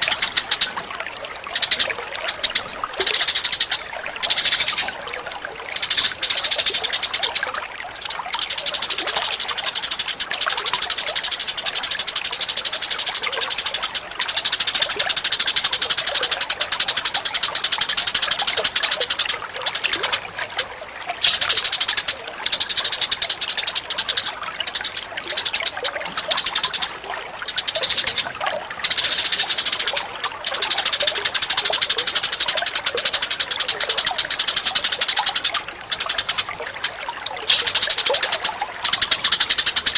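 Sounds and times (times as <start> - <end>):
rapid high bird trill: 0.0 - 5.0, 5.7 - 39.9.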